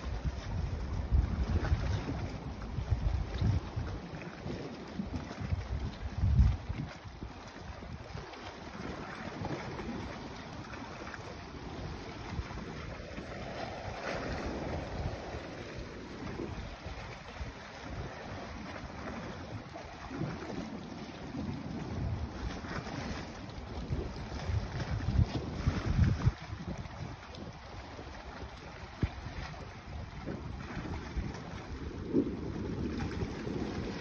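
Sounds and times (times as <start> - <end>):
sea water washing: 0.0 - 34.0
wind rumbling on microphone: 0.0 - 34.0.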